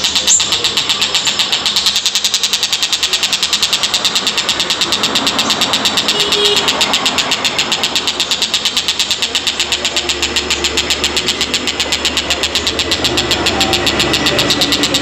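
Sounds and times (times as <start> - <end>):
kingfisher chattering call: 0.0 - 15.0.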